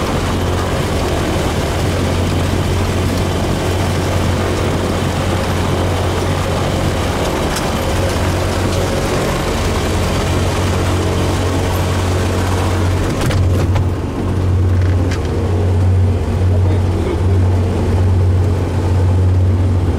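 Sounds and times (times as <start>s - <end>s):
propeller aircraft engine humming: 0.0s - 19.9s.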